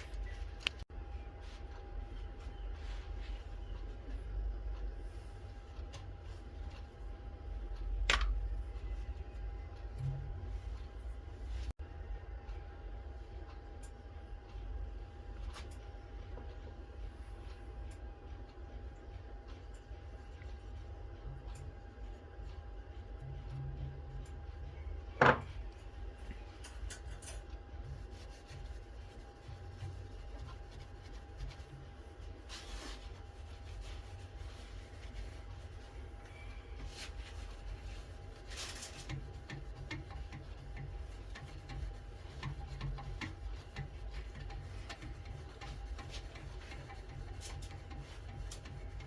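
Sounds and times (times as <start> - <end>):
faint hum: 0.0 - 49.0.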